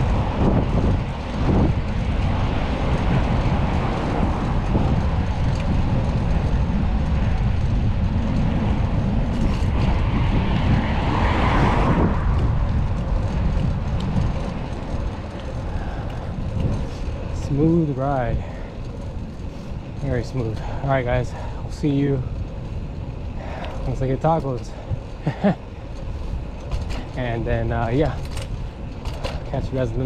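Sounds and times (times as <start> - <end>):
street and vehicle noise: 0.0 - 30.0
wind buffeting microphone: 0.0 - 30.0.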